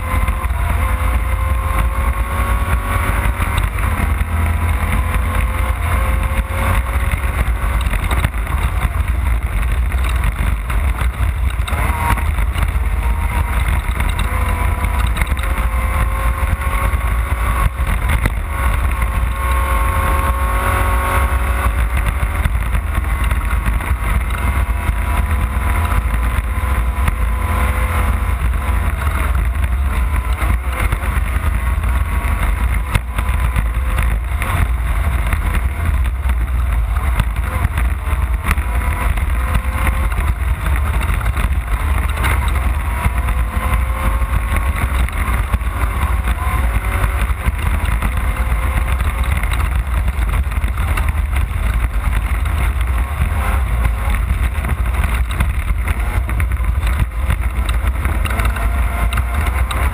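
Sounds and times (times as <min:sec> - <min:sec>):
low rumble: 0:00.0 - 0:59.9
race car engine revving: 0:00.0 - 0:59.9.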